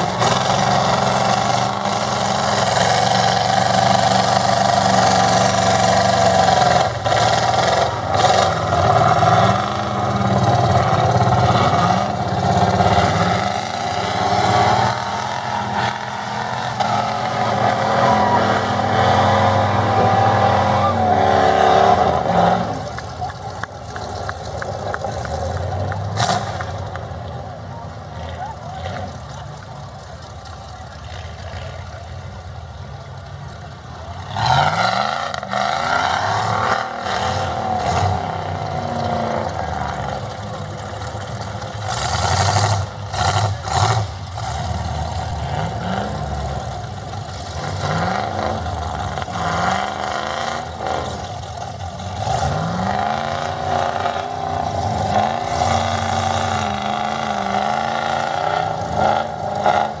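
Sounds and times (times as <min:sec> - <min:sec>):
truck engine revving hard: 0:00.0 - 0:27.3, 0:32.7 - 1:00.0.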